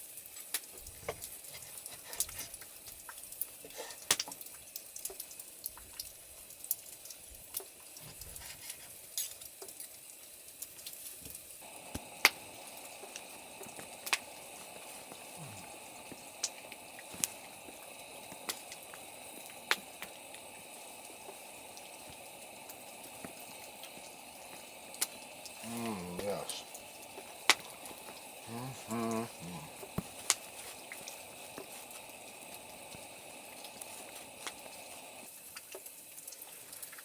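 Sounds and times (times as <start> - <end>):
campfire crackling and popping: 0.0 - 37.0
steady sizzling hiss: 0.0 - 37.0.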